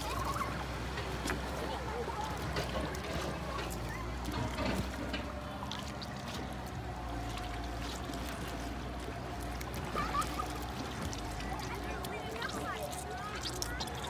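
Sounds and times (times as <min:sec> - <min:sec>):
low motor hum: 0:00.0 - 0:14.0
water sounds: 0:00.0 - 0:14.0.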